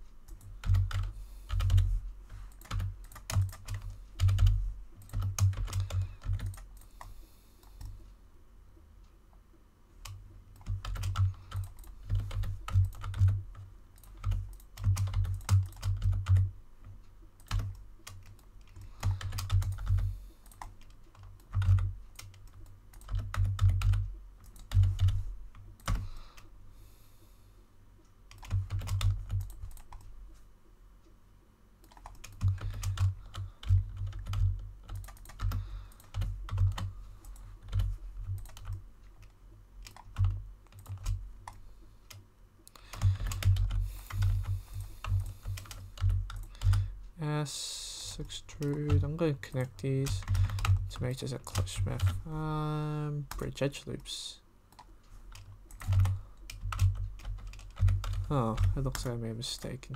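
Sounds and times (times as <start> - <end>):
keyboard typing: 0.3 - 8.0, 10.0 - 26.5, 28.3 - 30.1, 31.8 - 47.0, 48.2 - 53.6, 54.7 - 59.8.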